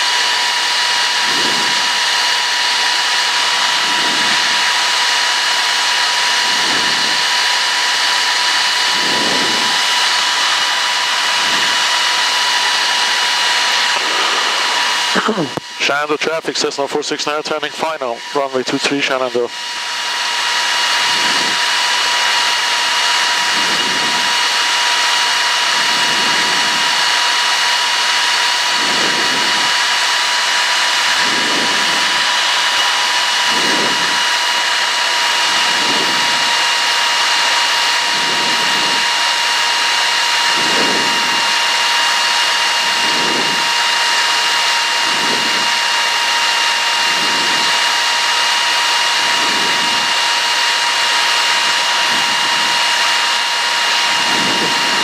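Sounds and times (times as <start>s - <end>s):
high steady whine: 0.0s - 55.0s.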